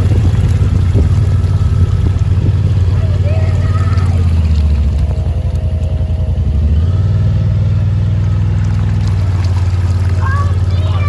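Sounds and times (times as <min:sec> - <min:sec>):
side-by-side engine running: 0:00.0 - 0:11.0.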